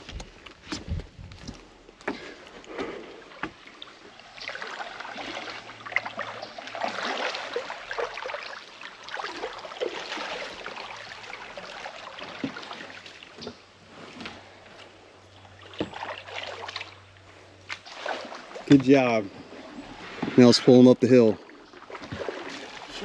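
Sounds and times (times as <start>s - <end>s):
water splashing around kayak: 1.9s - 23.0s.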